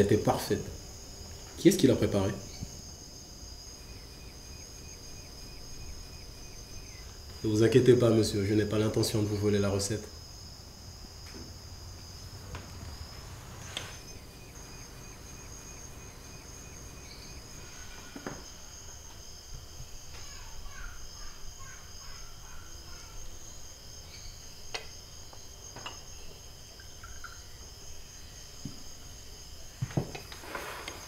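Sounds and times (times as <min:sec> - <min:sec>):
insect chorus chirring: 0:00.0 - 0:31.0.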